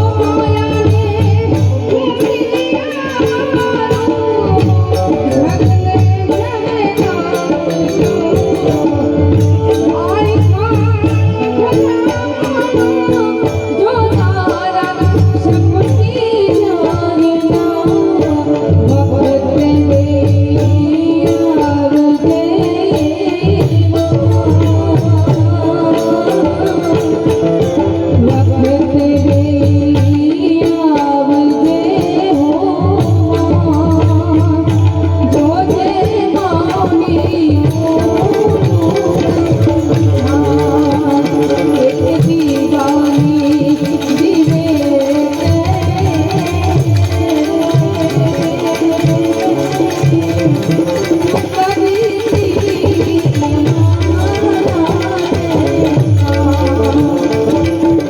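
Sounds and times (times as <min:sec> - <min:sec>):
person singing: 0:00.0 - 0:58.0
tabla-style drumming: 0:00.0 - 0:58.0.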